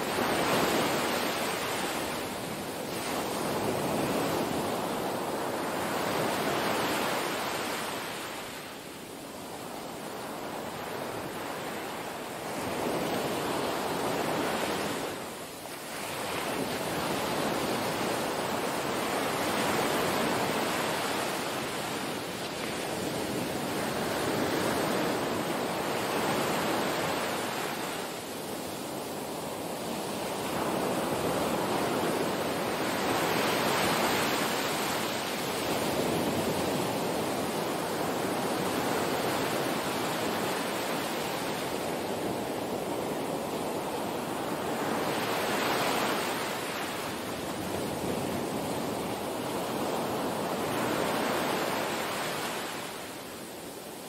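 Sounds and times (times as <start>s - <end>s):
surf washing onto beach: 0.0s - 54.0s
wind on microphone: 0.0s - 54.0s.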